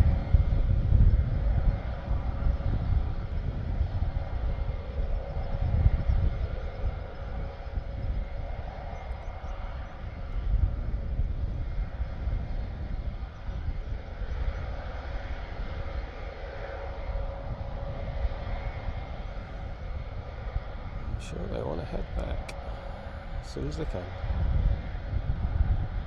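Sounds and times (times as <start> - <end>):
turboprop engines running: 0.0 - 26.0
wind buffeting microphone: 0.0 - 26.0.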